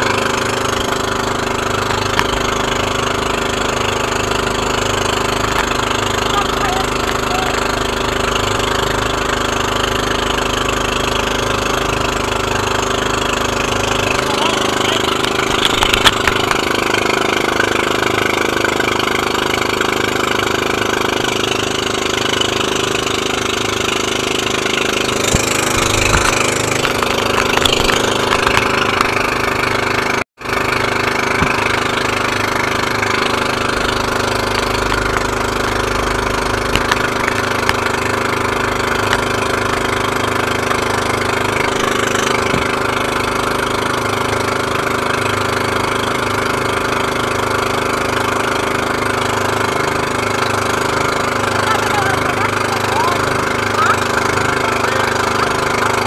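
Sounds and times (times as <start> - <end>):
boat engine running: 0.0 - 56.0
wind and water rushing: 0.0 - 56.0.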